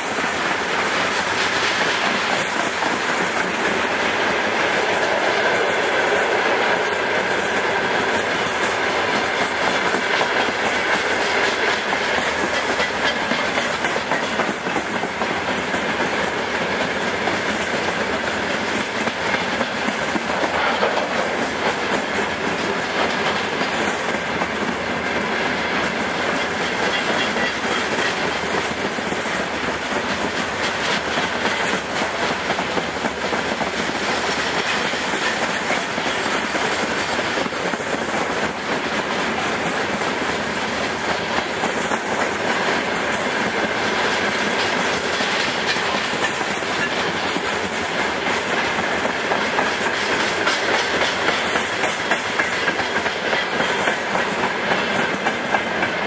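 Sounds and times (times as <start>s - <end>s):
train rolling noise: 0.0s - 56.0s
train wheels clicking over rails: 0.0s - 56.0s.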